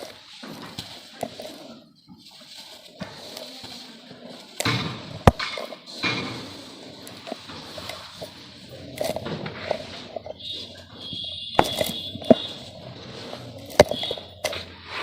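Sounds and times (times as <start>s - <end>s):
dirt lumps crunching: 0.0s - 15.0s.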